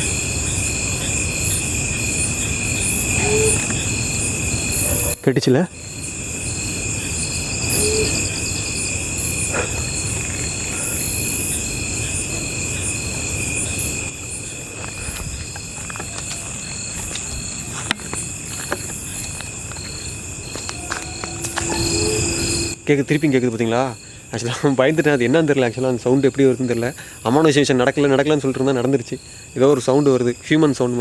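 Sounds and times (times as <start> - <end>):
crickets and insects trilling: 0.0 - 31.0
pulsing insect trill: 0.0 - 31.0.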